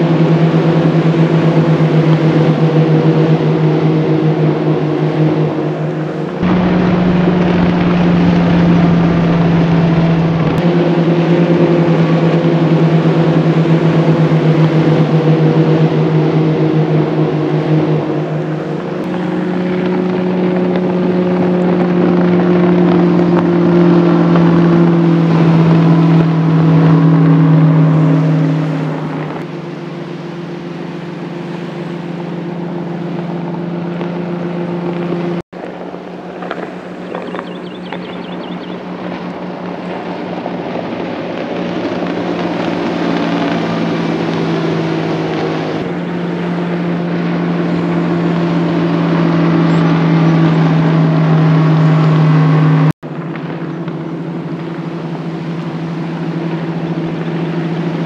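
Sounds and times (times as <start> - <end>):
outboard engines at full throttle: 0.0 - 58.0.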